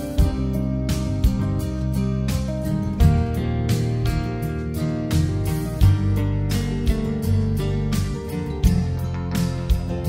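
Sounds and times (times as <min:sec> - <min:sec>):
instrumental guitar music: 0:00.0 - 0:10.0.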